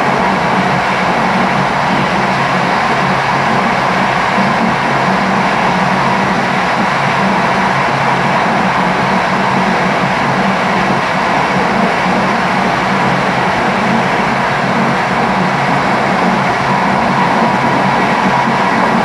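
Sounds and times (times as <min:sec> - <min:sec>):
low train hum: 0:00.0 - 0:19.0.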